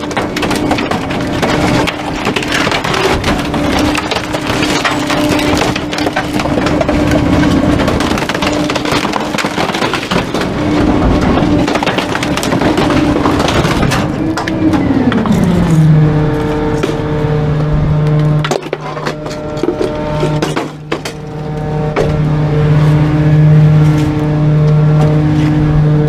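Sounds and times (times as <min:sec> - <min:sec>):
wood cracking and splintering: 0:00.0 - 0:25.6
garbage truck hydraulics engine: 0:00.0 - 0:26.0.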